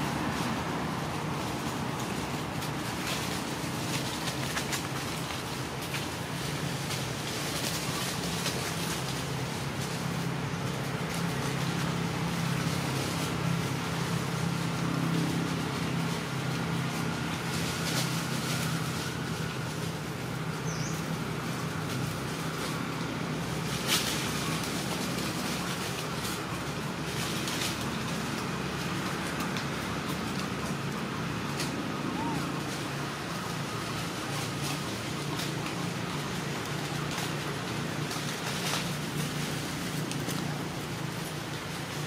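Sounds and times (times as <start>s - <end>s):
traffic engine hum: 0.0s - 42.0s.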